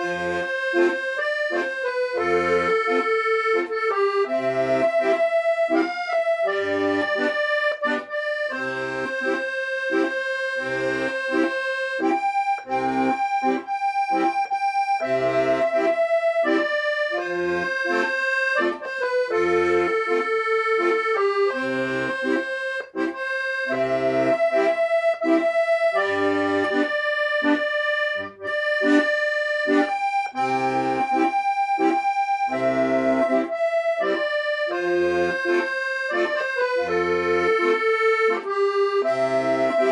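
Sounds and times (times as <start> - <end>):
accordion bass notes and chords: 0.0 - 39.9
accordion melody: 0.0 - 39.9.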